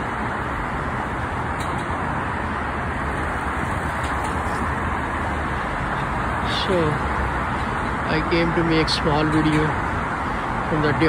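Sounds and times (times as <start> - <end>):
highway traffic rush: 0.0 - 11.0.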